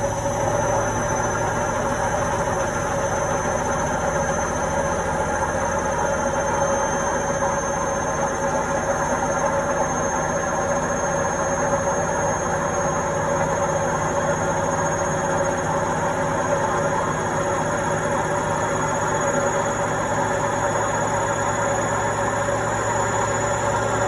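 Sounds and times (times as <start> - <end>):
washing machine hum: 0.0 - 24.0.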